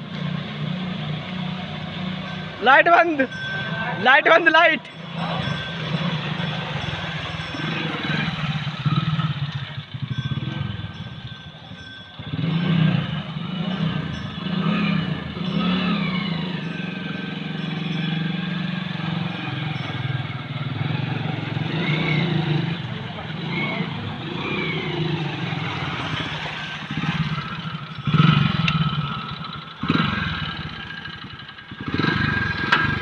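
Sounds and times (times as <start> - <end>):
motorcycle engine under throttle: 0.0 - 33.0.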